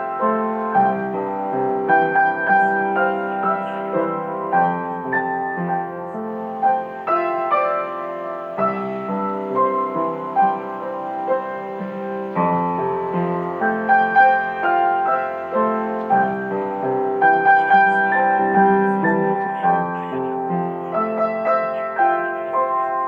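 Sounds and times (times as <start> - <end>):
slow gentle piano music: 0.0 - 23.0.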